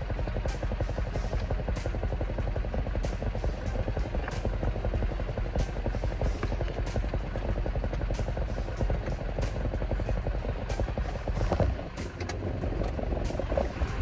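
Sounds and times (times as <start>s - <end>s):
truck engine rumbling: 0.0s - 14.0s
sharp ticks: 0.1s - 14.0s.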